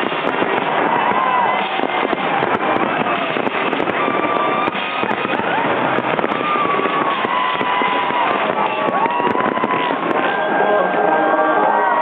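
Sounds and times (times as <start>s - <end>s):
fireworks crackling and popping: 0.0s - 12.0s
music soundtrack: 0.0s - 12.0s.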